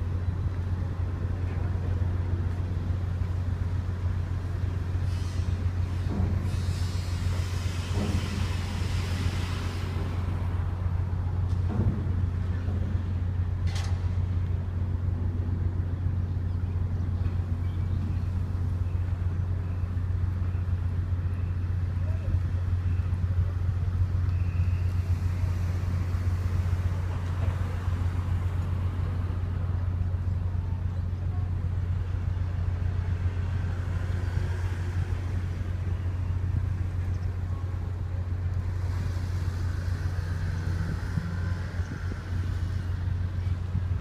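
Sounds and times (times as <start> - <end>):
ship engines droning: 0.0 - 44.0.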